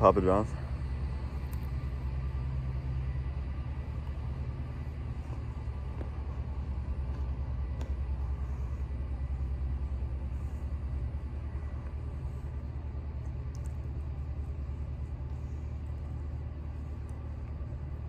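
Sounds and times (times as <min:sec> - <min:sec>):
fluttering low rumble: 0:00.0 - 0:18.0.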